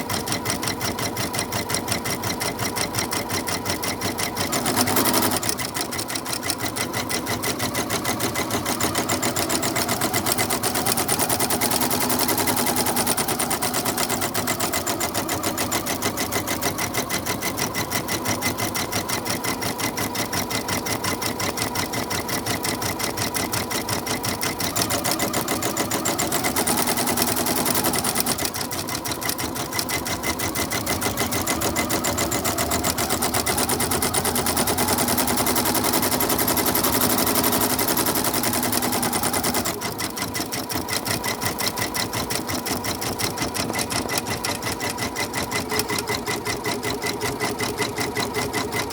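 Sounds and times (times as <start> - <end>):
embroidery machine needle rattle: 0.1 - 48.9.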